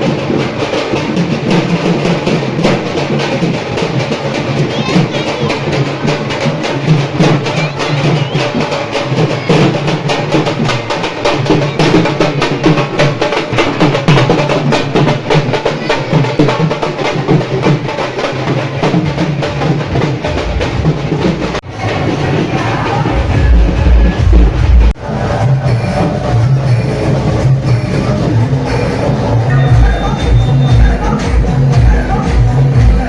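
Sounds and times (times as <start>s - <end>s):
fast driving percussion music: 0.0s - 33.0s.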